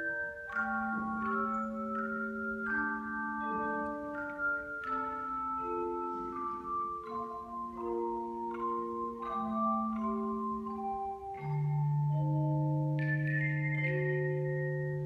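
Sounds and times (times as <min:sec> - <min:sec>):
tone chimes playing melody: 0:00.0 - 0:15.0.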